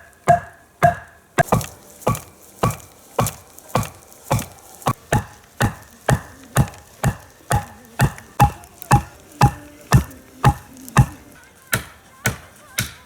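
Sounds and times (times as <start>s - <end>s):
axe chopping wood: 0.0s - 13.0s.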